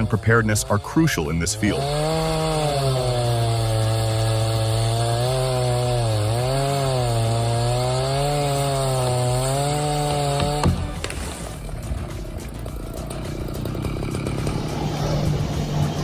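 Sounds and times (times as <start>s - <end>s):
wood-cutting machine engine running: 0.0s - 16.0s.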